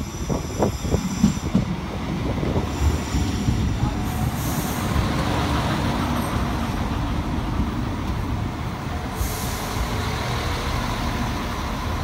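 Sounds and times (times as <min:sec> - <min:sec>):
train engines and wheels rumbling: 0:00.0 - 0:12.0.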